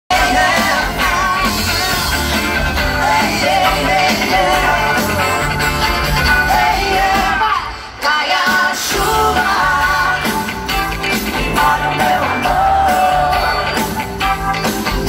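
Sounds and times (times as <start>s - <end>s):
live band with singer: 0.1s - 15.0s.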